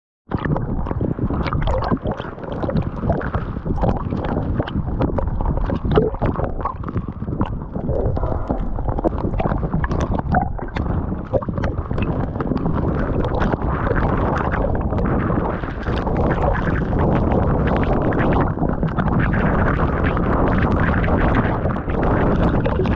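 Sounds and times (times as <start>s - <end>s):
choppy water washing: 0.3s - 22.9s
wind on microphone: 0.3s - 22.9s.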